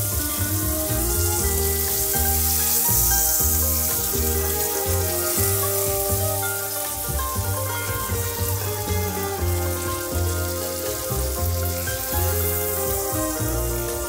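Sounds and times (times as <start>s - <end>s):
background music held notes: 0.0s - 14.0s
food sizzling in frying pans: 0.0s - 14.0s.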